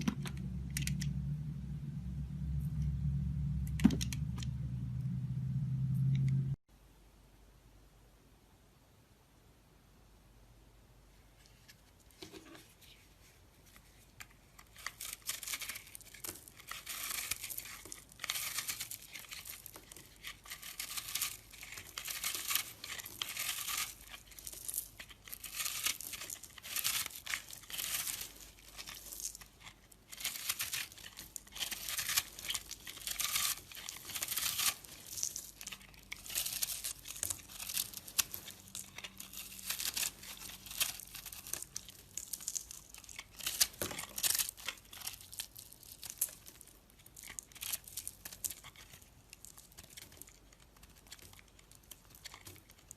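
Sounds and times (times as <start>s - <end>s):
soap crumbling and crackling: 0.0s - 1.4s, 11.3s - 52.9s.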